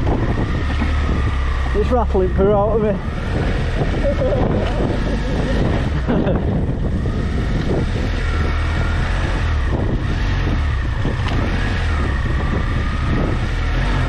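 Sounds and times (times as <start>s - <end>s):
motorcycle engine running: 0.0s - 14.0s
wind rumbling on microphone: 0.0s - 14.0s.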